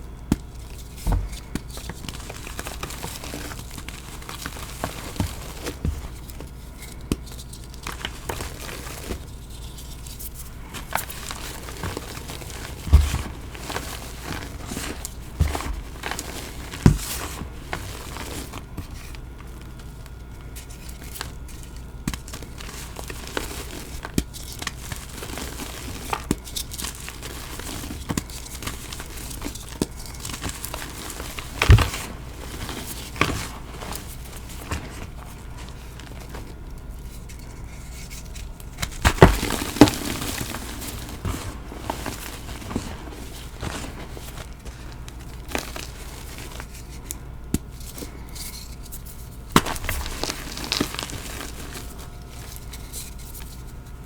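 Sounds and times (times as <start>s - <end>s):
powder blocks crumbling by hand: 0.1s - 53.8s.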